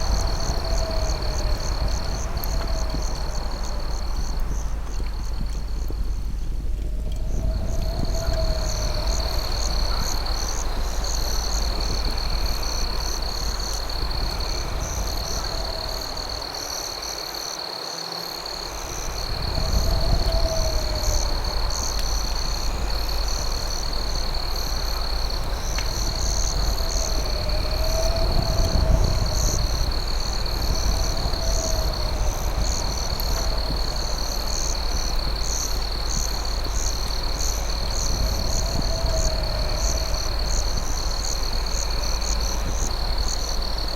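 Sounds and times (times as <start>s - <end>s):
low rumbling background: 0.0s - 17.4s, 18.4s - 43.9s
crickets trilling: 0.0s - 43.9s.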